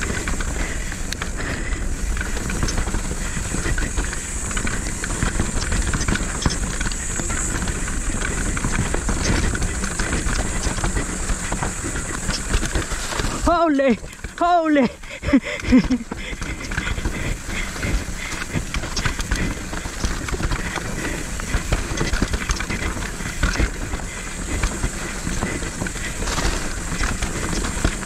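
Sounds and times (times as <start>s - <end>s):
bike chain and frame clatter: 0.0s - 28.0s
bike tyres over dirt and rocks: 0.0s - 28.0s.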